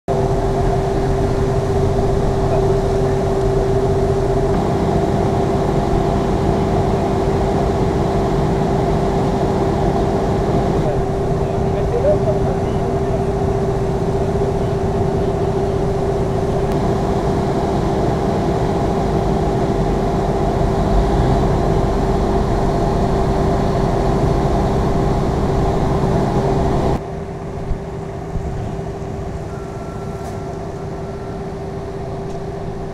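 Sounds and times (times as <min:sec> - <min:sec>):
engines and fire pumps droning: 0:00.1 - 0:32.9.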